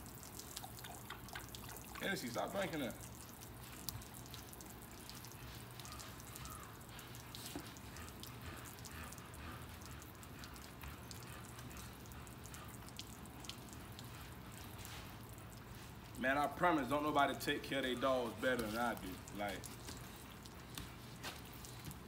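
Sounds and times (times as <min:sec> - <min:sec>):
wet dripping and squelching: 0:00.0 - 0:22.0.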